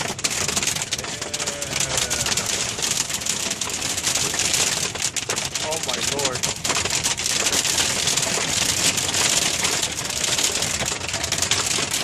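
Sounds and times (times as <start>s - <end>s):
hail pelting car roof: 0.0s - 12.0s.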